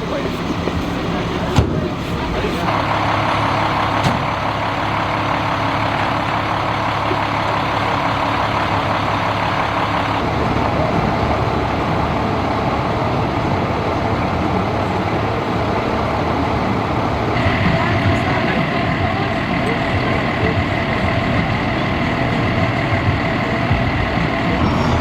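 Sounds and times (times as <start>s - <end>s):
heavy truck engine humming: 0.0s - 25.0s.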